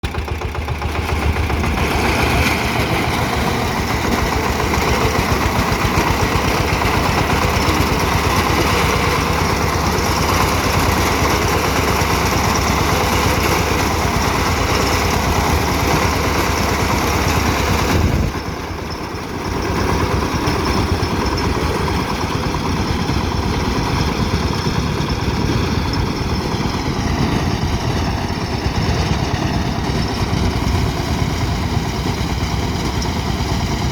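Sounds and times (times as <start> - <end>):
harvester engine running: 0.0 - 33.9.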